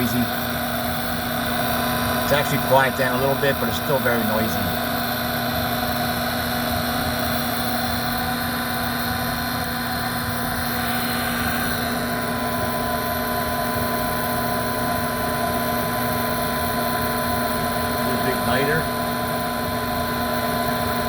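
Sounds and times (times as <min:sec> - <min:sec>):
furnace motor droning: 0:00.0 - 0:21.0.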